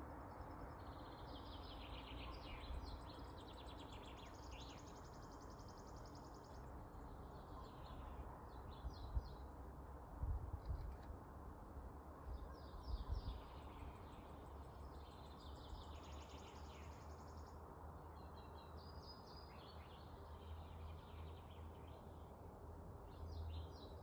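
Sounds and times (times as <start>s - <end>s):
songbirds singing: 0.0s - 9.9s, 12.1s - 24.0s.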